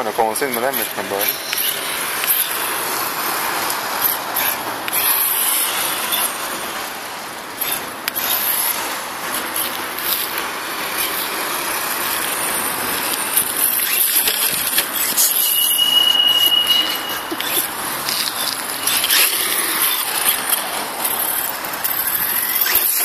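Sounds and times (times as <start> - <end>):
rc truck tyres rasping on asphalt: 0.3 - 23.0.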